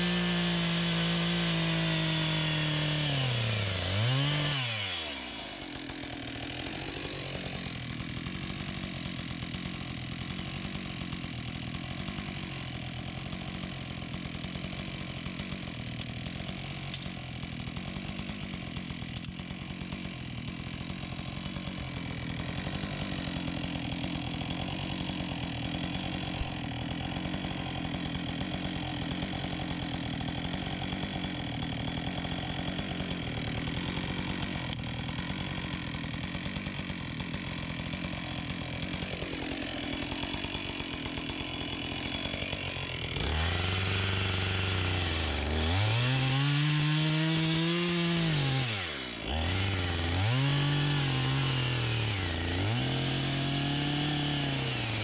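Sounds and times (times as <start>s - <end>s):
chainsaw running at high revs: 0.0s - 55.0s.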